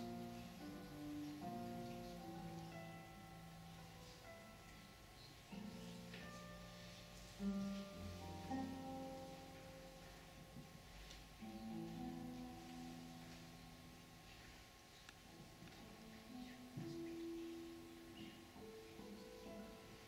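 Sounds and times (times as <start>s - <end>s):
classical guitar played softly: 0.0s - 20.0s.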